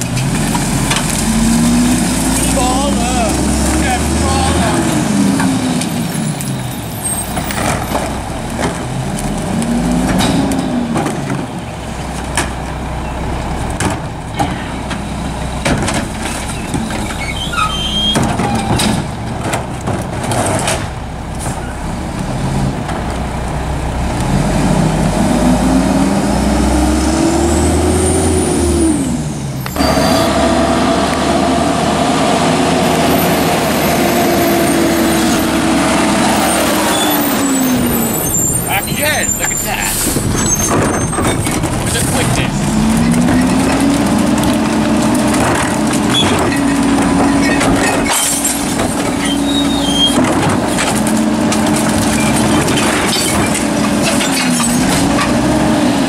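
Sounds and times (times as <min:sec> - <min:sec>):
diesel engine revving: 0:00.0 - 0:56.0
truck engine whining: 0:00.0 - 0:56.0.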